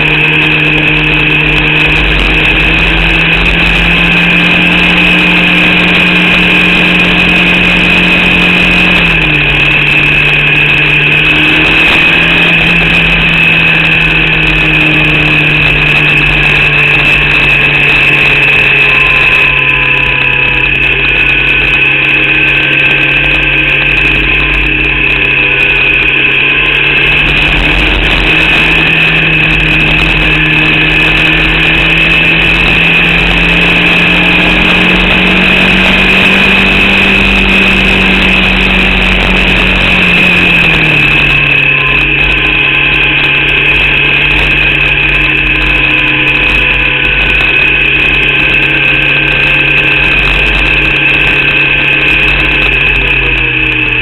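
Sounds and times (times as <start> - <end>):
high whine: 0.0 - 54.0
race car engine running: 0.0 - 54.0.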